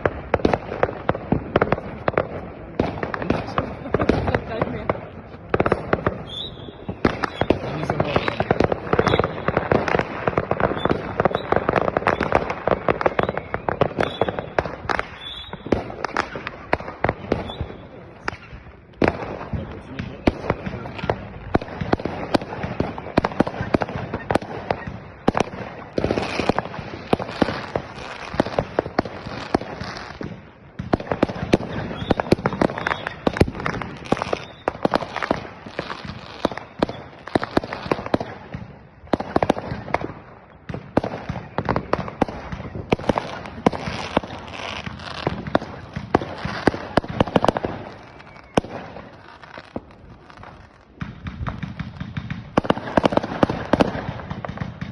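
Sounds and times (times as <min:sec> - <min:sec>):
fireworks and firecrackers banging: 0:00.0 - 0:54.9.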